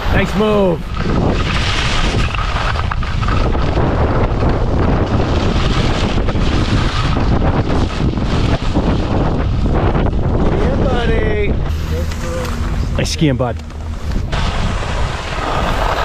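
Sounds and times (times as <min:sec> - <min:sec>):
skis scraping over snow: 0:00.0 - 0:16.0
wind on microphone: 0:00.0 - 0:16.0.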